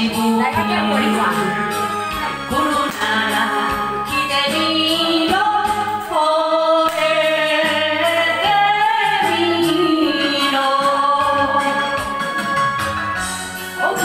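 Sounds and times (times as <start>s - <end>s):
backing track music: 0.0s - 14.0s
woman singing karaoke: 0.0s - 14.0s.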